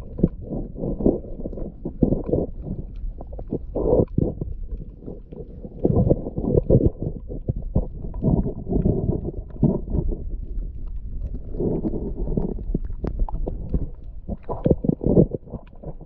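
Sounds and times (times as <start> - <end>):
muffled water sloshing: 0.0 - 16.0.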